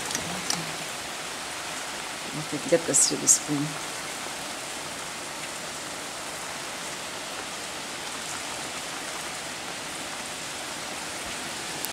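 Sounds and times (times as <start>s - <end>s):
heavy rain hissing: 0.0s - 11.9s.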